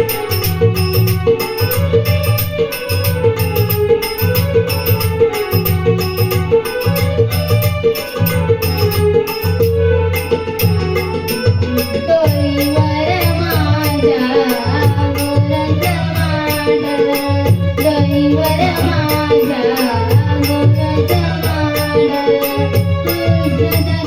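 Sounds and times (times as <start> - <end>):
jingling percussion: 0.0 - 24.0.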